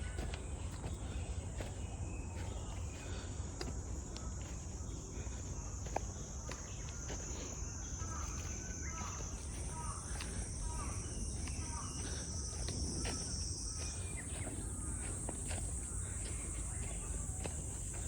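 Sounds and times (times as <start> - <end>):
footsteps on trail: 0.0 - 18.0
insects droning: 0.0 - 18.0.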